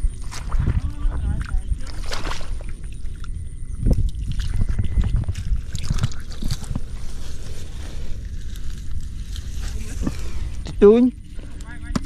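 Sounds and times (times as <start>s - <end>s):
steady low rumble: 0.0s - 12.0s
water sloshing and splashing: 0.0s - 12.0s.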